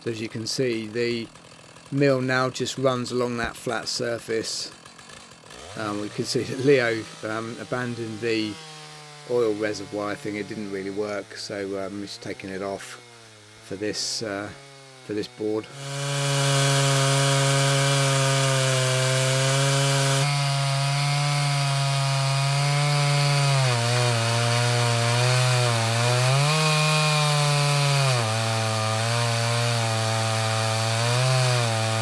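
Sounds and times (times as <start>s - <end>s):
chainsaw ripping a log: 0.0s - 32.0s.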